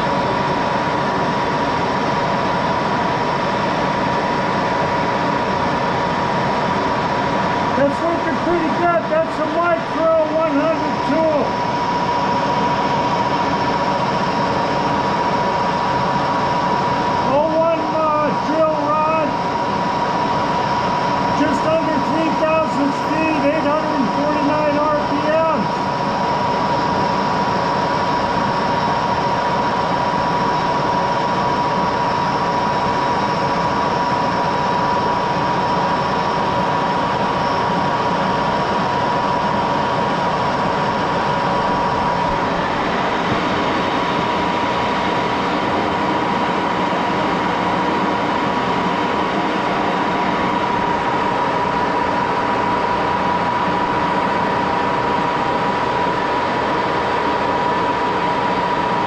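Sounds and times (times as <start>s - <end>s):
lathe running with high whine: 0.0s - 59.0s.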